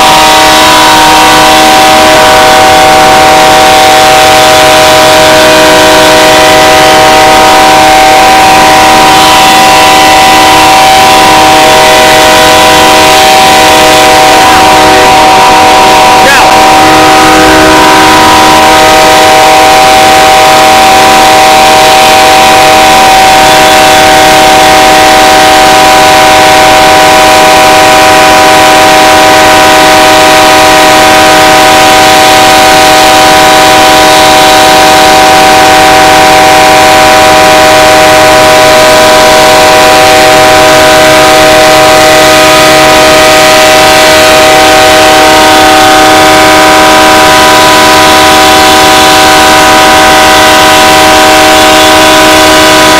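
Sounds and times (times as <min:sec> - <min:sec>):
locomotive air horn blowing: 0:00.0 - 0:48.6.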